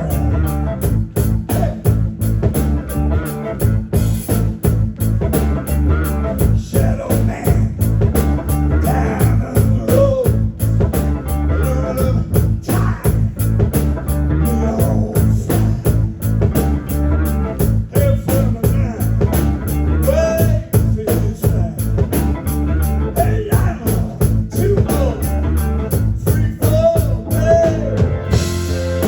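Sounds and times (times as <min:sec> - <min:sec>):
heavy bass: 0:00.0 - 0:29.0
rock band playing live: 0:00.0 - 0:29.0
steady drum beat: 0:00.0 - 0:29.0.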